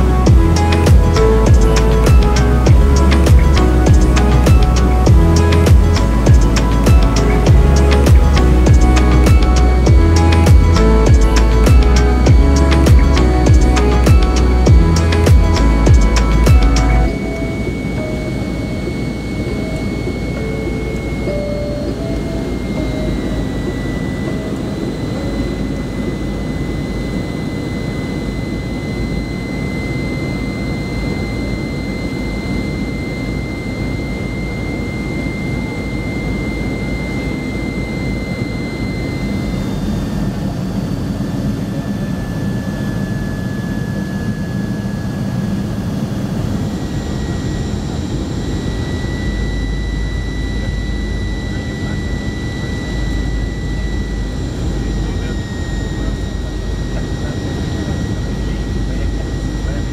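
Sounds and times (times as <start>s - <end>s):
jet engines rushing with whine: 0.0s - 59.9s.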